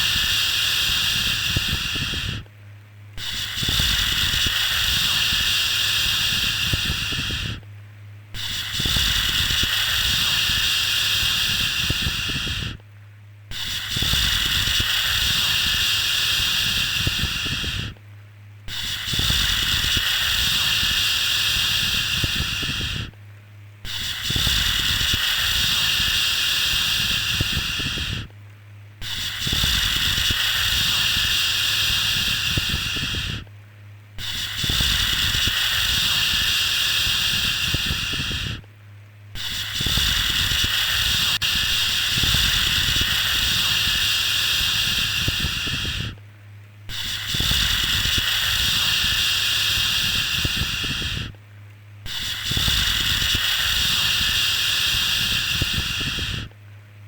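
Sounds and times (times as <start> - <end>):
long shushing hisses: 0.0 - 2.5, 3.2 - 7.6, 8.4 - 12.8, 13.5 - 18.0, 18.7 - 23.1, 23.8 - 28.3, 29.0 - 33.5, 34.2 - 38.6, 39.4 - 46.2, 46.9 - 51.3, 52.1 - 56.5
low steady hum: 0.0 - 54.4, 55.0 - 57.0.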